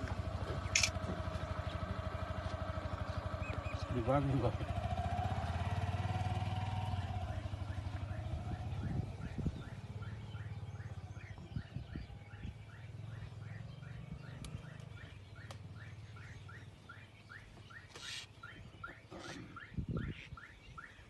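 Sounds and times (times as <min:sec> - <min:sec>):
vehicle engine idling: 0:00.0 - 0:20.2
bird chirping: 0:00.6 - 0:04.0, 0:07.0 - 0:21.0.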